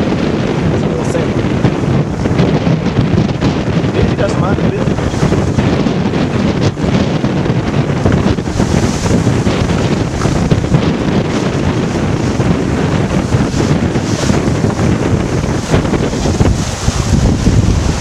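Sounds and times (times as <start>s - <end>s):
strong wind buffeting microphone: 0.0s - 18.0s
waves splashing along hull: 0.0s - 18.0s.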